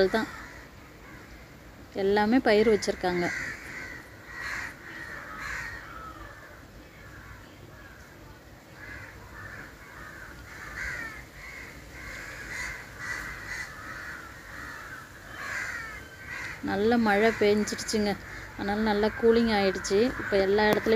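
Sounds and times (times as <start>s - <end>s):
crows cawing: 0.0s - 1.8s, 2.4s - 8.1s, 8.7s - 20.9s.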